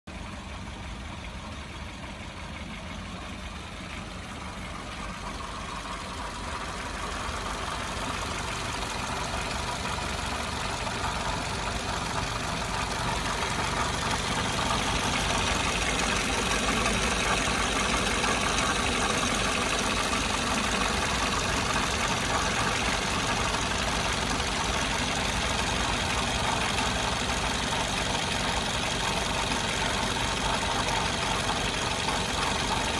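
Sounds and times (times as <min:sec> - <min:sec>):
car engine running: 0:00.1 - 0:32.9.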